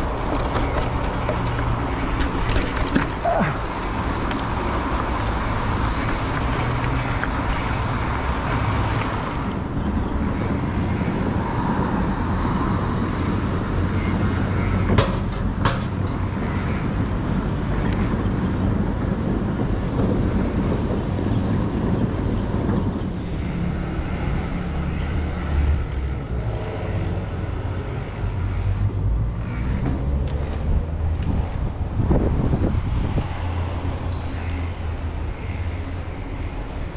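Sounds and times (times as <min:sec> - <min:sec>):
road traffic rumble: 0:00.0 - 0:36.9.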